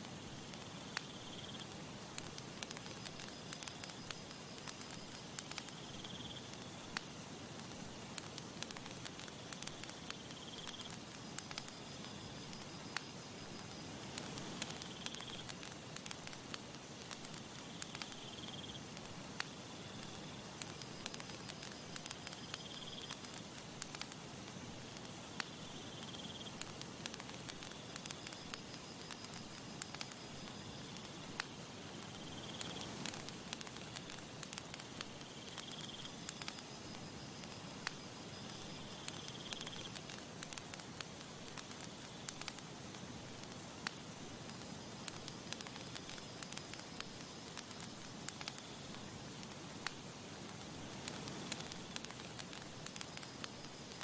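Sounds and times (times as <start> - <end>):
campfire crackling and popping: 0.0 - 54.0
soft steady hiss: 0.0 - 54.0
insect-like trills: 0.5 - 24.2, 24.8 - 42.6, 44.4 - 54.0.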